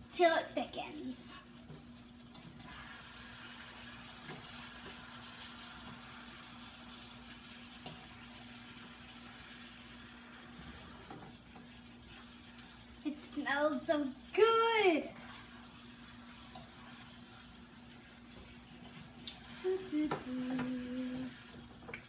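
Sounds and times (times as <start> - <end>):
sauce bubbling and sizzling in a pan: 0.0 - 22.0.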